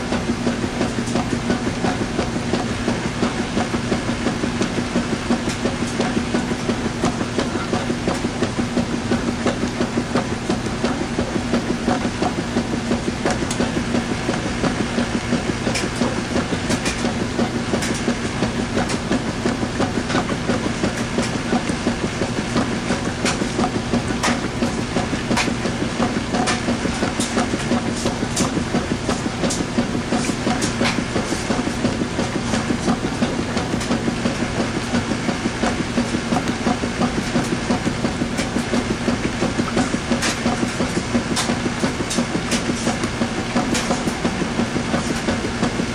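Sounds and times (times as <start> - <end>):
washing machine churning: 0.0 - 45.9
washing machine motor hum: 0.0 - 45.9.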